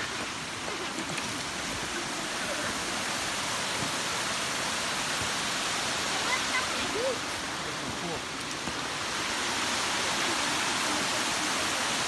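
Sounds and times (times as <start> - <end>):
creek water flowing over stones: 0.0 - 12.0.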